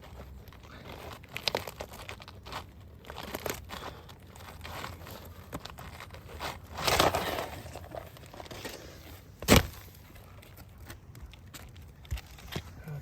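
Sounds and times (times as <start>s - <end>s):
roof shingle tearing: 0.0s - 12.8s.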